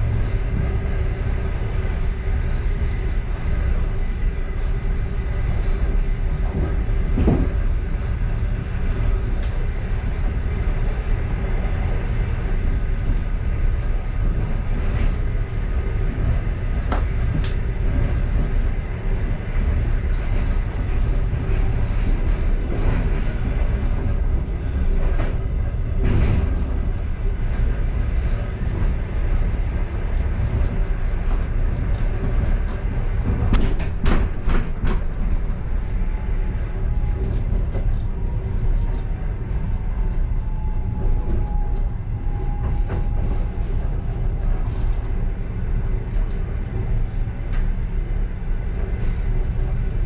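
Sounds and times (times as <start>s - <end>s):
train knocks and clicks: 0.0s - 50.0s
train rumbling: 0.0s - 50.0s.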